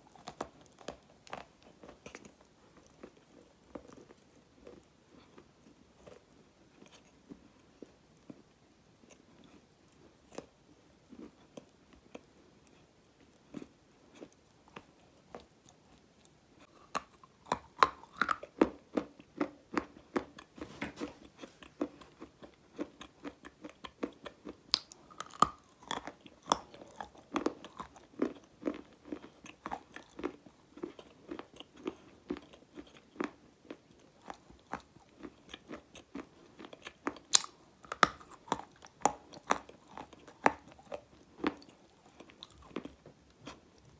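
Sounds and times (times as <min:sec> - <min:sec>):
crunchy biting and chewing: 0:00.0 - 0:08.4, 0:11.1 - 0:43.9.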